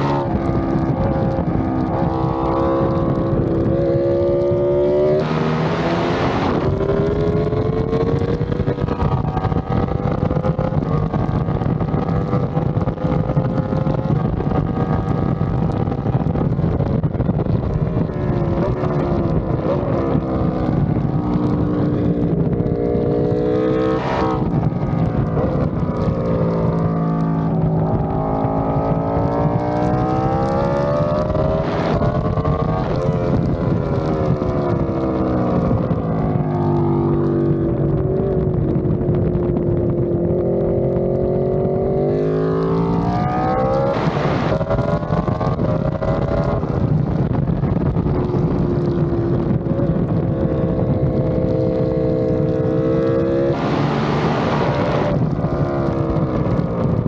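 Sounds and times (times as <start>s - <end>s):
motorcycle engine: 0.0s - 57.0s
wind rush: 0.0s - 57.0s.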